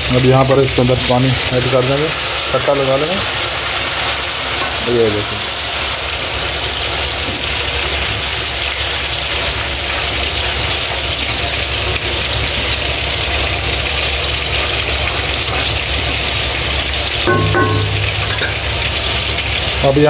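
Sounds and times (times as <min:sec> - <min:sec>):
sauce bubbling and sizzling: 0:00.0 - 0:20.0.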